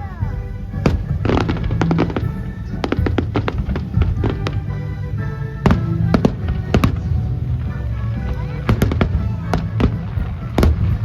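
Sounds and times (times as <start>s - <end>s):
fireworks bangs: 0.0s - 11.0s
music playing: 0.0s - 11.0s.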